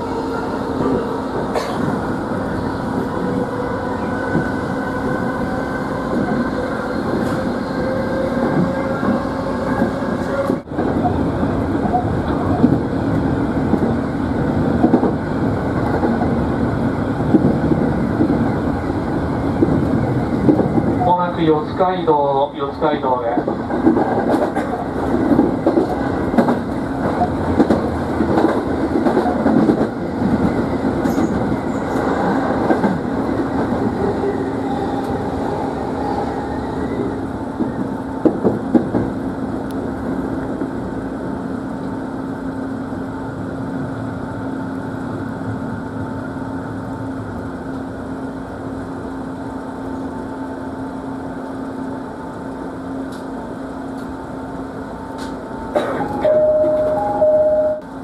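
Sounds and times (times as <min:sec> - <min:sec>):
train hum: 0:00.0 - 0:58.0.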